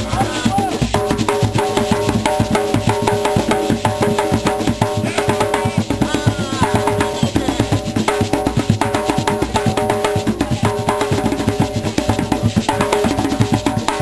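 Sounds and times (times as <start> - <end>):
hand drums: 0.0 - 14.0.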